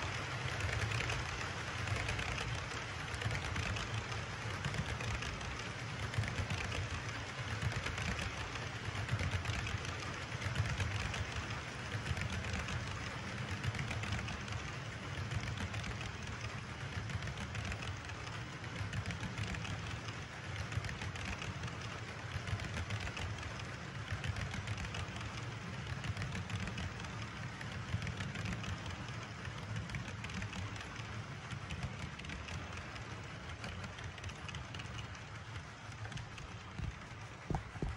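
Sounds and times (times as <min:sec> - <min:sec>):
model train cars rolling: 0:00.0 - 0:37.9.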